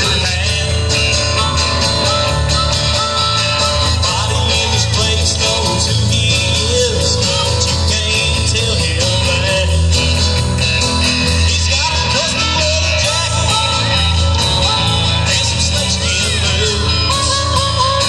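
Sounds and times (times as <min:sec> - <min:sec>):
lead vocal singing: 0:00.0 - 0:10.3, 0:11.3 - 0:18.0
live band playing: 0:00.0 - 0:18.0.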